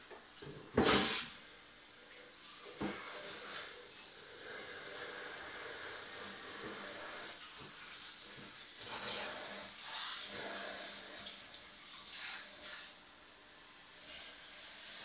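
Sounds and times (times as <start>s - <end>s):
faucet running into sink: 0.1s - 13.0s.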